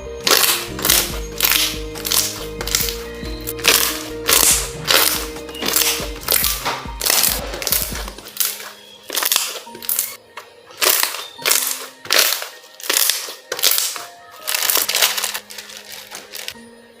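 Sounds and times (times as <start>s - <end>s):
soft background music: 0.0s - 17.0s
slime squishing and popping: 0.2s - 10.2s, 10.8s - 16.6s.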